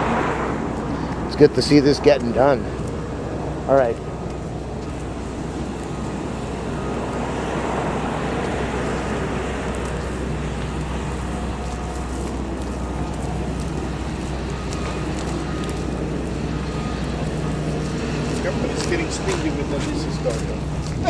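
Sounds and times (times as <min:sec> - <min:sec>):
low engine rumble: 0:00.0 - 0:21.0
vehicles passing on road: 0:00.0 - 0:21.0.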